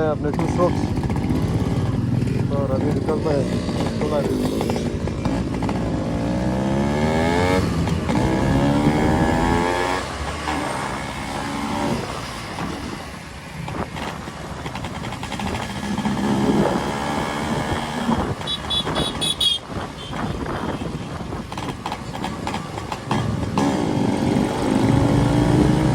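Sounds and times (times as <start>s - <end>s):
motorcycle engines revving: 0.0s - 25.9s.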